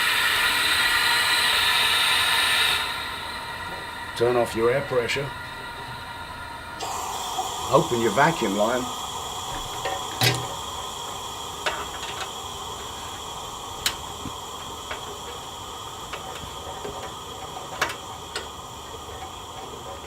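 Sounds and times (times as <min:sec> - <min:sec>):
vacuum line hiss: 0:00.0 - 0:20.0.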